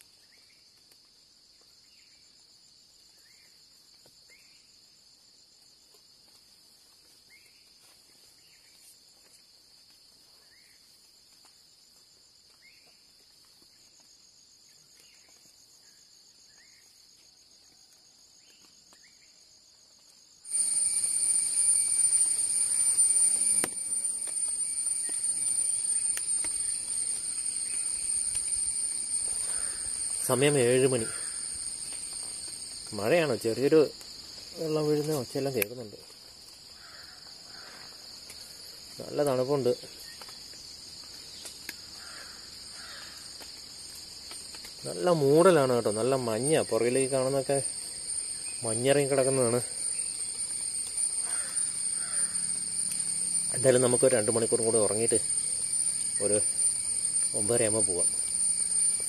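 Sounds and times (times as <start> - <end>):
crickets trilling: 0.0 - 59.0
loud insect drone with whine: 0.0 - 59.0
short faint insect calls: 0.0 - 59.0.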